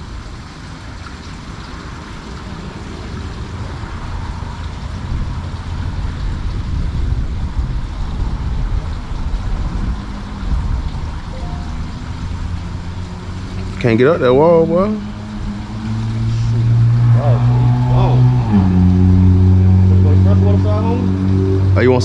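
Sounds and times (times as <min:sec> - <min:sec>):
wind buffeting microphone: 0:02.2 - 0:22.0.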